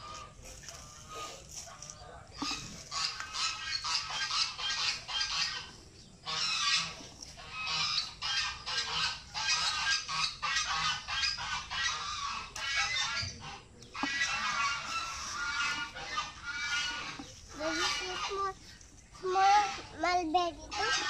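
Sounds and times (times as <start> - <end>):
fowl honking: 0.0 - 18.6.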